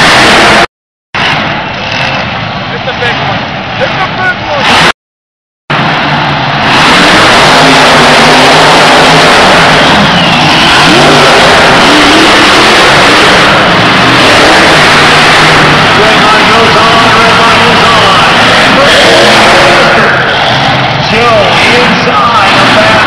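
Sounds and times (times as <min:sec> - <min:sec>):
monster truck engines revving: 0:00.0 - 0:05.0, 0:05.7 - 0:23.0.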